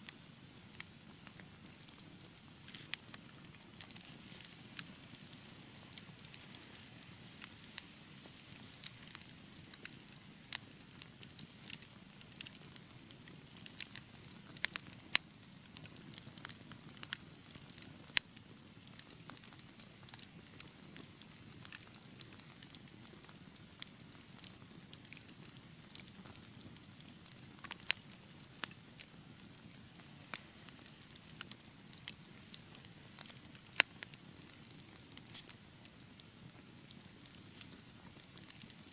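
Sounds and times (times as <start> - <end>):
fire crackling: 0.0 - 38.9
fire popping: 0.1 - 38.9.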